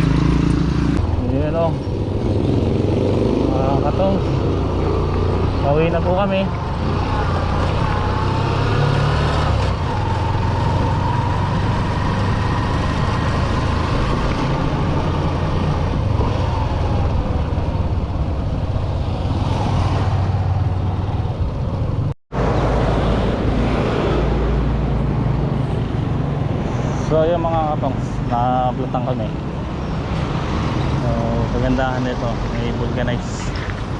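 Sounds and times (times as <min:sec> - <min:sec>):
motorcycle engine drone: 0:00.0 - 0:29.3
wind and road noise: 0:00.0 - 0:33.9.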